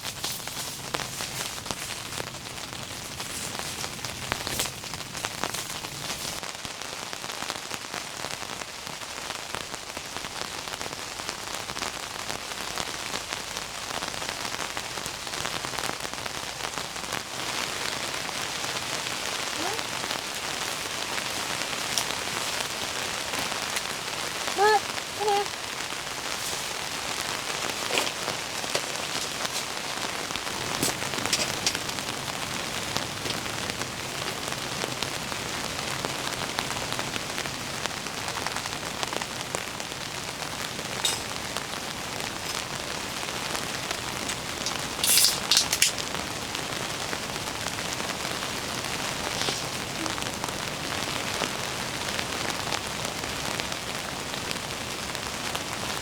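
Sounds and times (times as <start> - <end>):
heavy rain hissing: 0.0 - 56.0
raindrops striking close by: 0.0 - 56.0.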